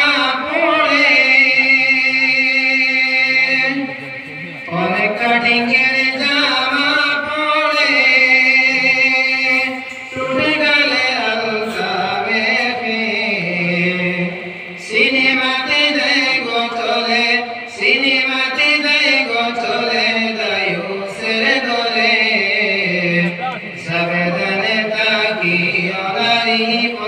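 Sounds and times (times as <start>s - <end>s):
man singing into a microphone: 0.0s - 27.0s.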